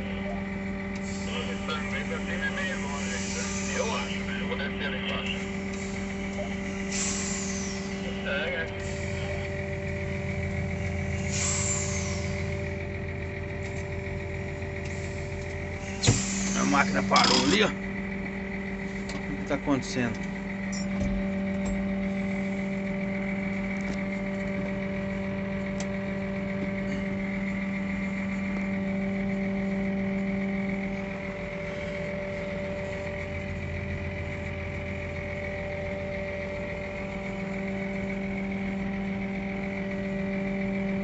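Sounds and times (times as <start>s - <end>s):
high whine: 0.0s - 41.0s
tractor engine running: 0.0s - 41.0s.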